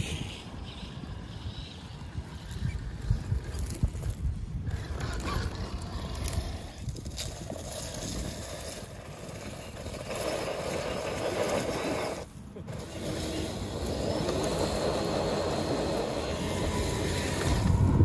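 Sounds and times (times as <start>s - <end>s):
toy car drivetrain noise: 0.0s - 17.8s
gravel crunching under tyres: 0.0s - 18.0s.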